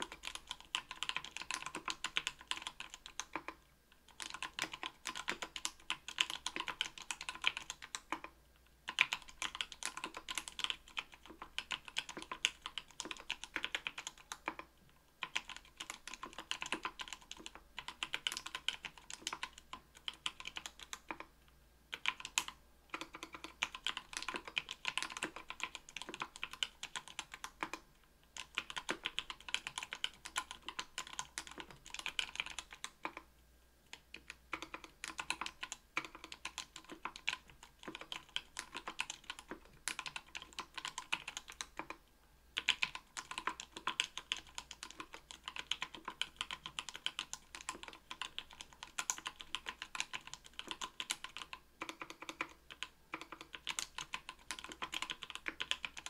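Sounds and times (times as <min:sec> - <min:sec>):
mechanical keyboard typing: 0:00.0 - 0:21.3, 0:21.9 - 0:33.3, 0:33.9 - 0:42.0, 0:42.6 - 0:56.0.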